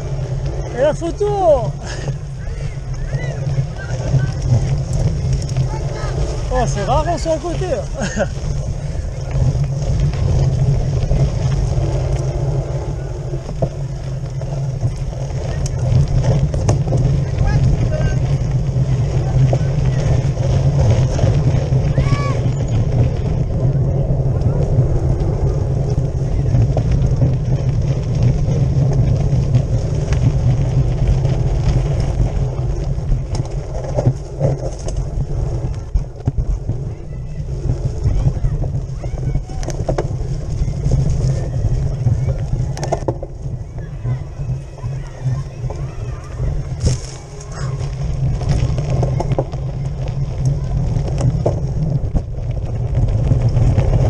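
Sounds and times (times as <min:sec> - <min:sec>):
bike rattles and knocks: 0:00.0 - 0:54.0
tyre rumble: 0:00.0 - 0:54.0
wind buffeting microphone: 0:00.0 - 0:54.0.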